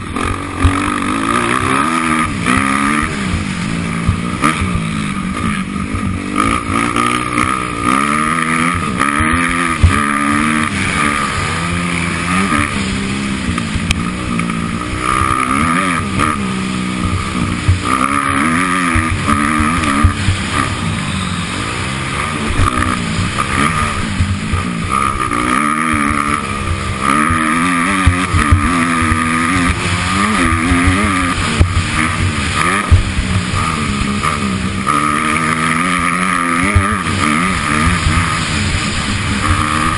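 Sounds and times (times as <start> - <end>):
motocross motorcycle engine revving: 0.0 - 39.9.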